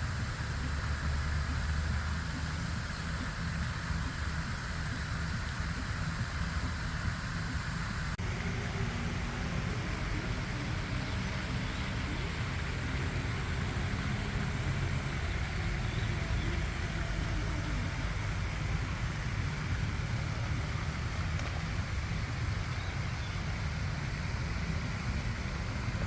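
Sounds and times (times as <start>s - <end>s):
low rumble with faint hiss: 0.0s - 26.0s.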